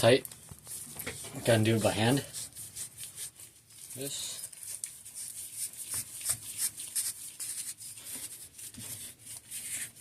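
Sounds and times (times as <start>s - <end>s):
metal rubbing and scraping: 0.7s - 10.0s.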